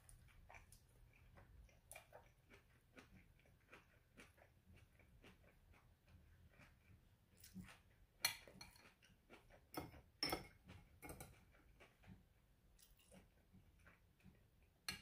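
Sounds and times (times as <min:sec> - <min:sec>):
mouth chewing wetly: 0:00.0 - 0:14.5.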